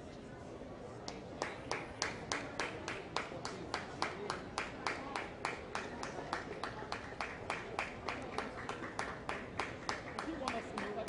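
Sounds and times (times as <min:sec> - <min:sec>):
murmur of indoor crowd: 0:00.0 - 0:11.0
hands clapping rhythmically: 0:01.1 - 0:11.0.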